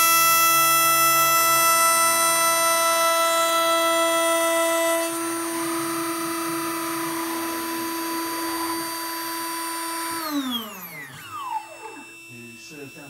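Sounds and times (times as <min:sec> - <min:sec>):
router spindle motor whine: 0:00.0 - 0:13.0.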